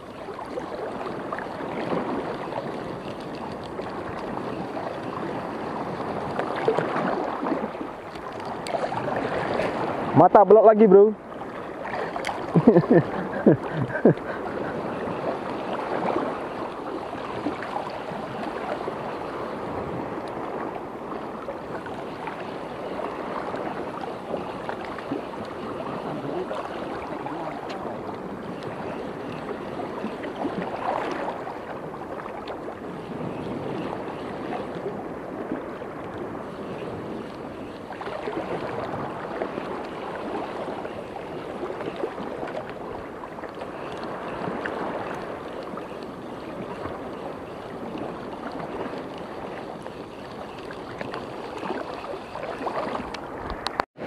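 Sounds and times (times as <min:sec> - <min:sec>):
water lapping and rushing: 0:00.0 - 0:54.0.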